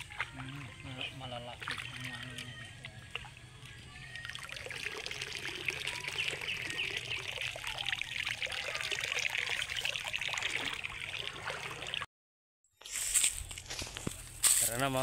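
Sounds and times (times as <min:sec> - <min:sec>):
creek water trickling and splashing: 0:00.0 - 0:12.1.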